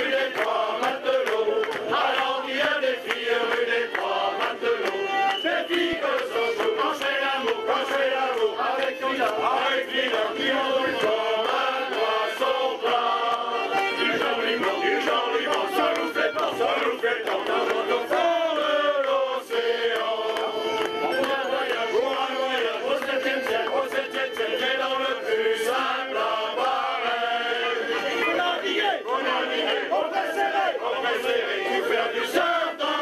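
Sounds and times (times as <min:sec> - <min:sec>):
male choir singing: 0:00.0 - 0:33.0.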